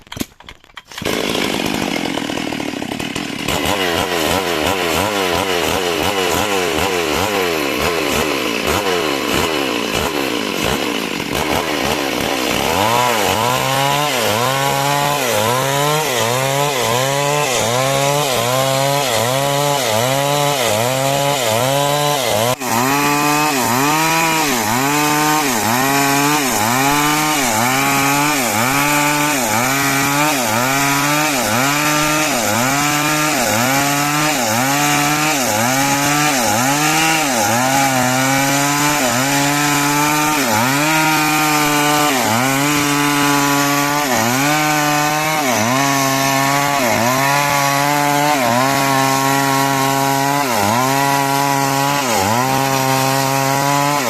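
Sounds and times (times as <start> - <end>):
chainsaw sawing timber: 0.0 - 54.0.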